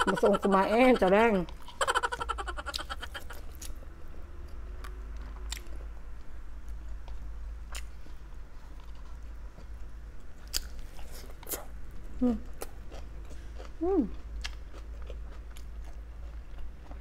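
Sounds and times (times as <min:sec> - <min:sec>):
person chewing meat: 0:01.5 - 0:09.8, 0:10.4 - 0:11.7, 0:12.5 - 0:17.0.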